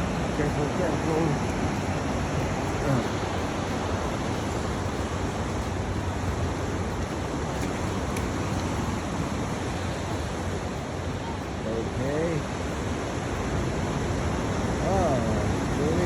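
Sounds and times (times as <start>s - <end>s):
ocean surf on rocky shore: 0.0s - 16.0s.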